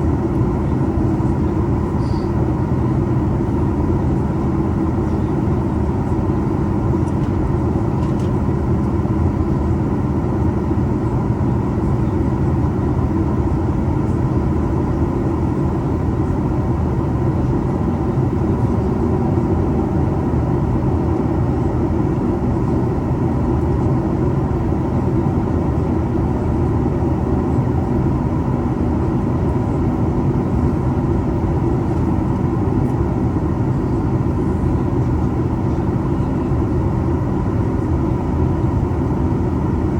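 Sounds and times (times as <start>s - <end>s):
airplane cabin drone: 0.0s - 39.9s
faint steady whine: 0.0s - 39.9s.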